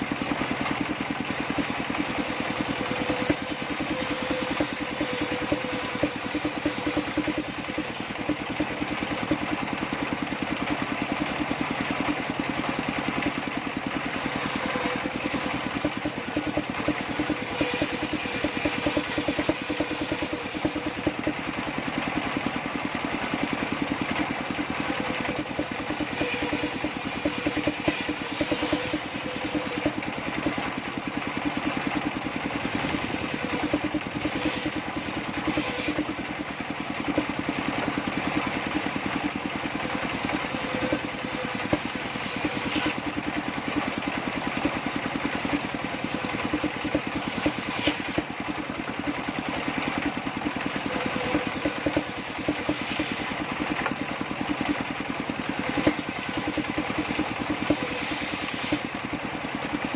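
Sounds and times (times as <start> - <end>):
engine-driven circular saw running: 0.0 - 59.9.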